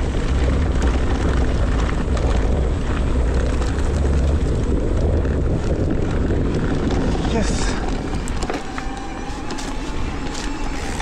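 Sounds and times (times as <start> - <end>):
tyre rolling noise: 0.0 - 11.0
wind buffeting microphone: 0.0 - 11.0
bike clicks and knocks: 0.4 - 11.0.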